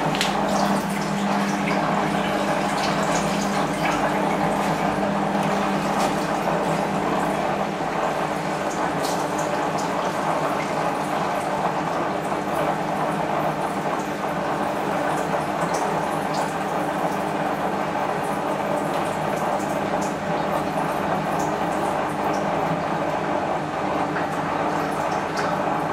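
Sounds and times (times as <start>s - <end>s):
washing machine sloshing water: 0.0s - 25.9s.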